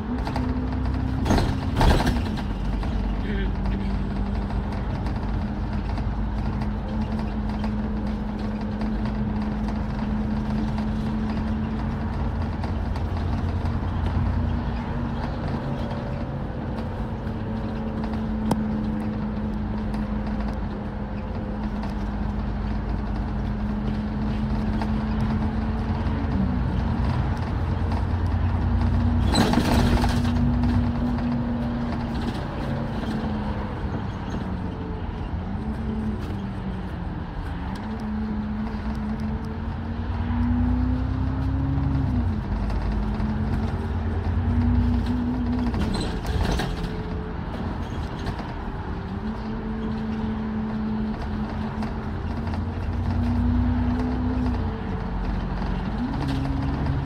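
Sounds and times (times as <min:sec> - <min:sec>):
bus engine rumble: 0:00.0 - 0:57.0
drivetrain whine: 0:00.0 - 0:57.0.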